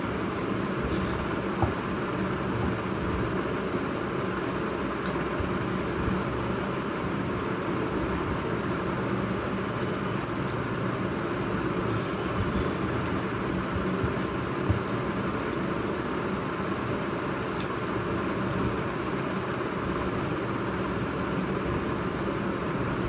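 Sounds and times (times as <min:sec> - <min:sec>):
mechanical hum with hiss: 0:00.0 - 0:23.0.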